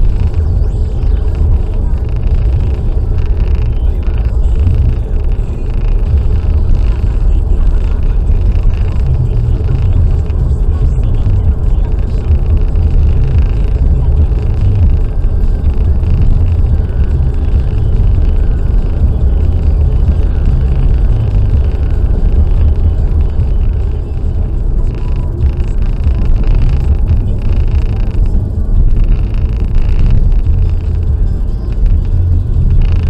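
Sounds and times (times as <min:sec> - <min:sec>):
car driving on motorway: 0:00.0 - 0:33.0.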